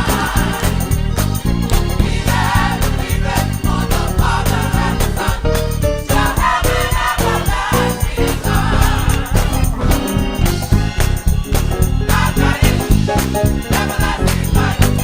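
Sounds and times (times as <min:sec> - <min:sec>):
band playing a steady beat: 0:00.0 - 0:15.0
gospel choir singing: 0:00.0 - 0:15.0.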